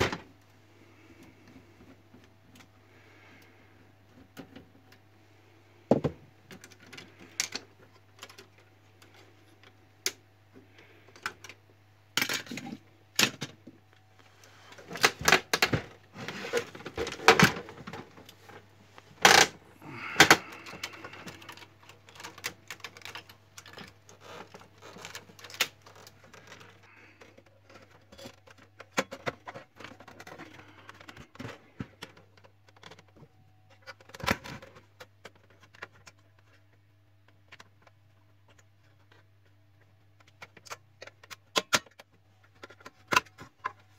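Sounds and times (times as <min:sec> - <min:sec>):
plastic printer parts rattling: 0:05.9 - 0:43.9.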